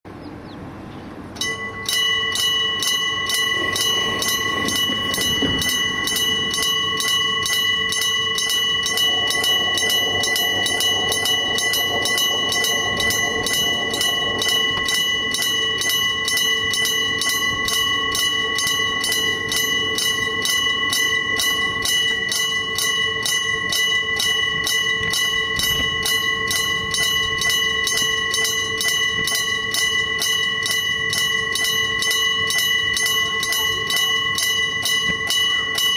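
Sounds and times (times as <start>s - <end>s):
level crossing bell ringing: 1.4s - 35.9s.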